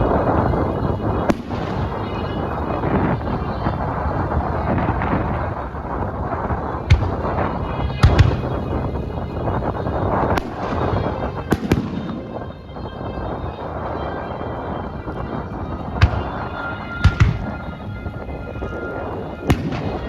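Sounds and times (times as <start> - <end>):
fireworks bursting: 0.0 - 20.0
rumble and crackle: 0.0 - 20.0.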